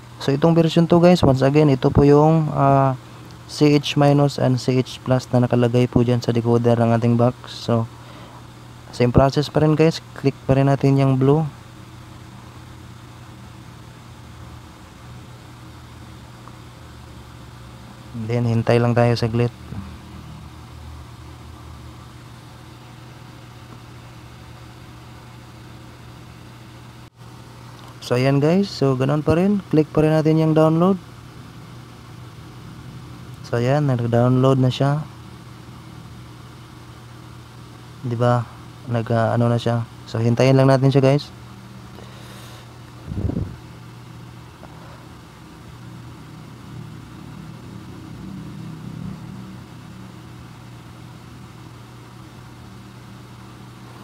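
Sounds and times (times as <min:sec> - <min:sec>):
constant hiss: 0:00.0 - 0:54.0
low mechanical hum: 0:00.0 - 0:54.0.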